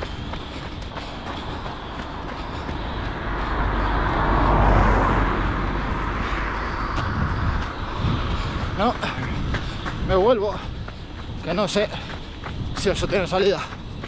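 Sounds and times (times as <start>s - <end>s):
vehicle passing by: 0.0s - 11.3s.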